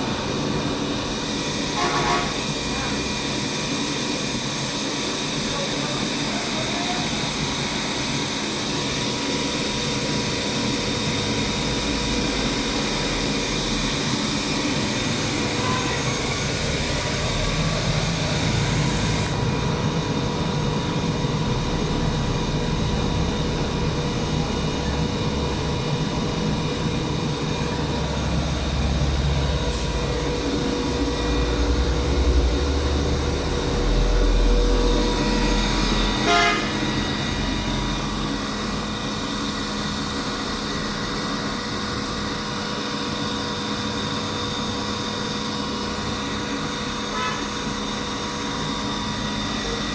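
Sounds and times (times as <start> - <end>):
air compressor drone: 0.0 - 49.9.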